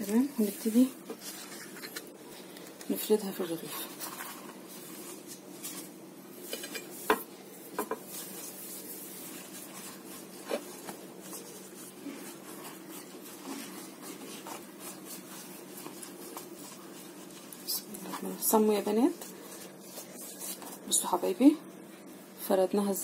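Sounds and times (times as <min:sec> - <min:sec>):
hands rubbing bread and meat: 0:00.0 - 0:22.1.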